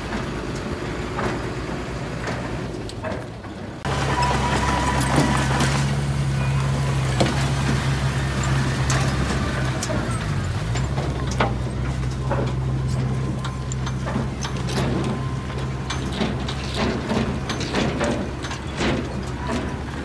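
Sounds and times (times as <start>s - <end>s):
bulldozer diesel engine running: 0.0s - 20.0s
clanks and knocks: 0.0s - 20.0s.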